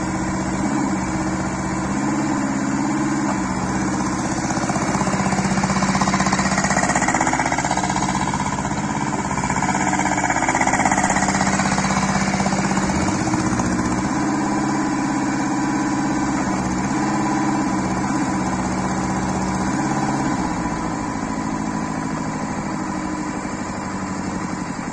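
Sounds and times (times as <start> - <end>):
mini excavator engine running: 0.0 - 24.9.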